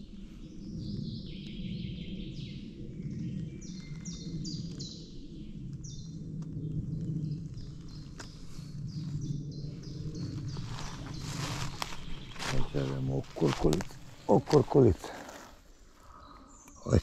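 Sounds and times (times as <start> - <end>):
songbird singing: 0.0 - 17.0
steady low rumble: 0.0 - 17.0.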